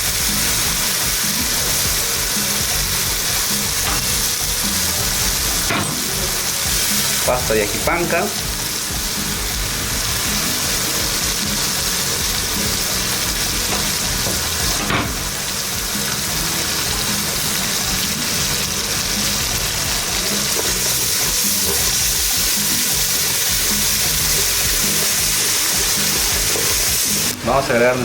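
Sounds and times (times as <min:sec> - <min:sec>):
onion and garlic sizzling in oil: 0:00.0 - 0:28.0.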